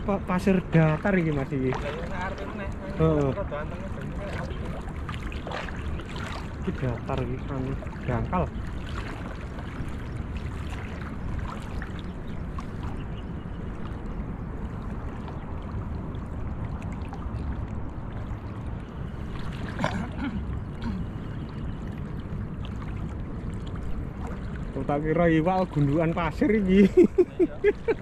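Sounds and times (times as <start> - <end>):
steady low rumble: 0.0 - 28.0
water sloshing around wading legs: 0.0 - 28.0.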